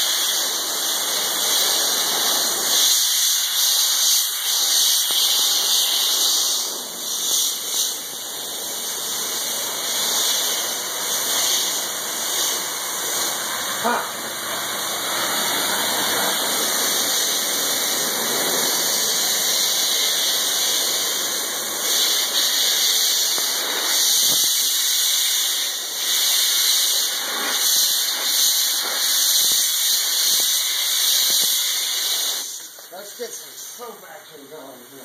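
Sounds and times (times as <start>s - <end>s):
pressure washer spraying water: 0.0s - 35.0s.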